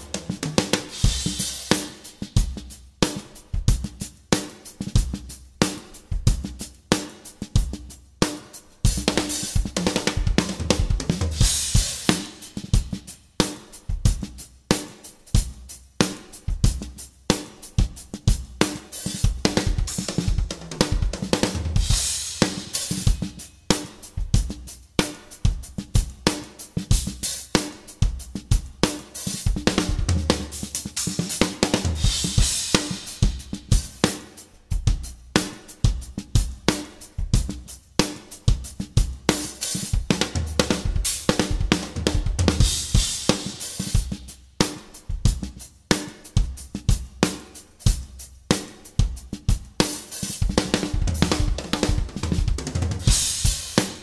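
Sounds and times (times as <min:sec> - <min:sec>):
drum kit groove: 0:00.0 - 0:54.0.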